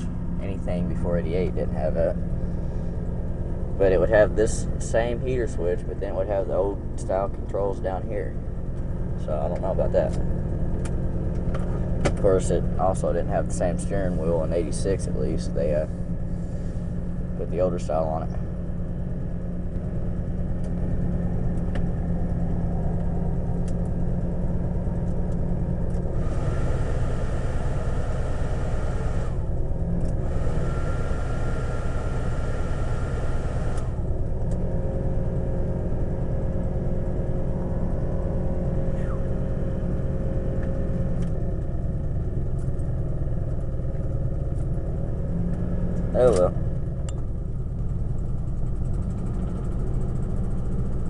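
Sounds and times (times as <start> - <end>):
engine fast idling: 0.0 - 51.0.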